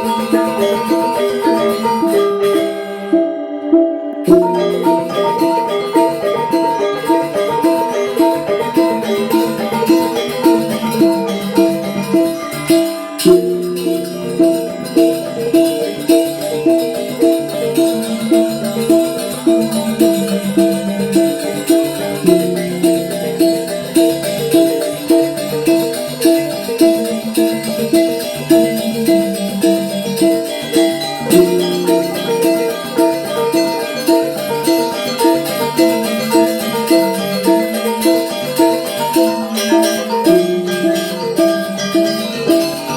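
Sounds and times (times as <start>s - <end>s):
angklung ensemble playing: 0.0s - 42.9s.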